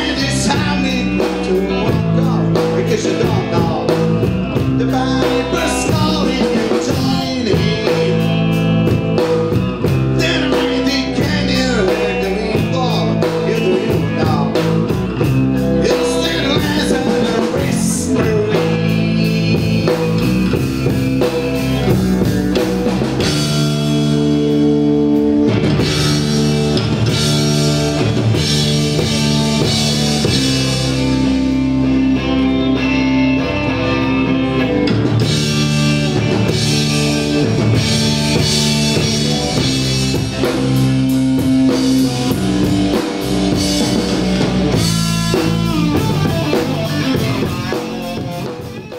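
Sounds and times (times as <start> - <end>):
rock music with singing: 0.0 - 48.9.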